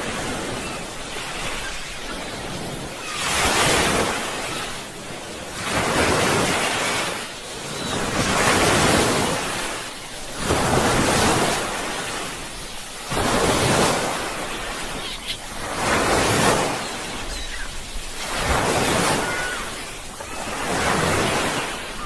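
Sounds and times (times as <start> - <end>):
sea waves breaking on shore: 0.0 - 22.0.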